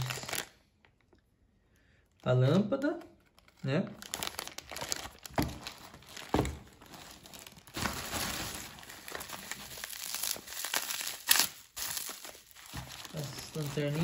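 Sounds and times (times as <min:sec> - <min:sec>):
plastic packaging crinkling: 0:00.0 - 0:01.0, 0:03.2 - 0:14.0
sharp plastic crackle: 0:00.0 - 0:01.2, 0:03.2 - 0:14.0.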